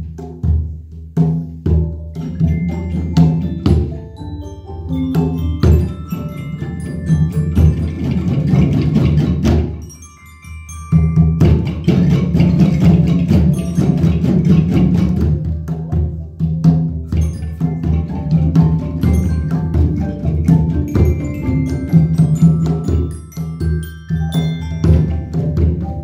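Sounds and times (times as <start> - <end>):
djembe beat: 0.0 - 26.0.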